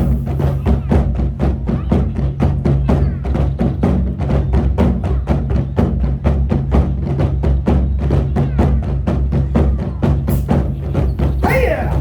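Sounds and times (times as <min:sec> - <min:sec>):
fast drum beat: 0:00.0 - 0:12.0.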